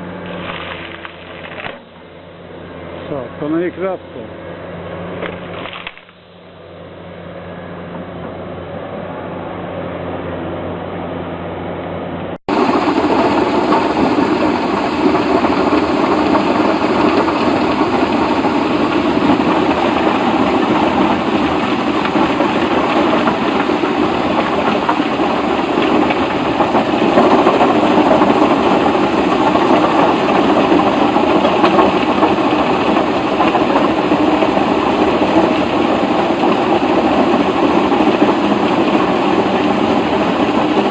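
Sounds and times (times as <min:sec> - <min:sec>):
engine-driven machine under load: 0:00.0 - 0:40.9
heavy machine engine: 0:00.0 - 0:40.9.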